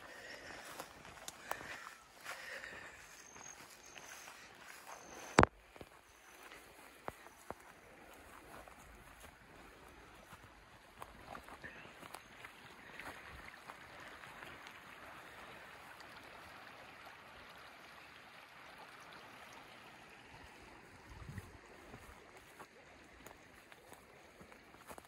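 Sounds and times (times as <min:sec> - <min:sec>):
creek flowing over gravel: 0:00.0 - 0:25.0.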